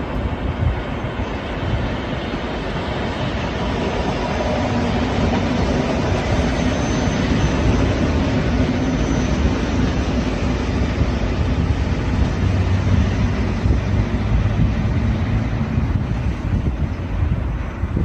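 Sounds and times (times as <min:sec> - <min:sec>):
distant train rumble and hum: 0:00.0 - 0:18.0.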